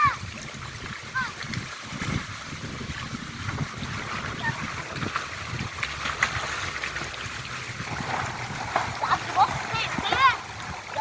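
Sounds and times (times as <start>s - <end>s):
sea water sloshing: 0.0s - 11.0s.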